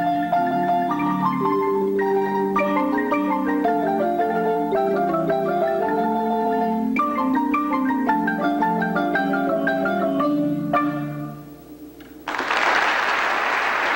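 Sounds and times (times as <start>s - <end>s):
marimba played with mallets: 0.0s - 11.4s.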